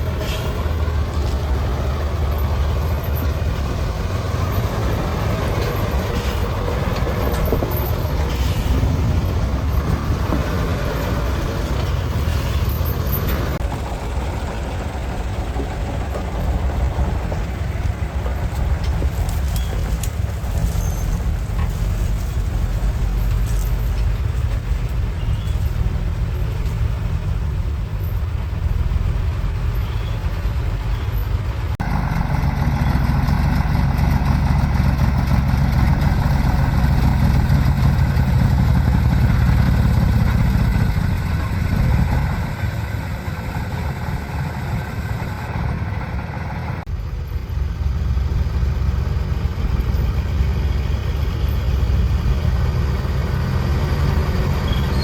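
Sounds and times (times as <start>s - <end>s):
diesel machinery engines running: 0.0s - 55.0s.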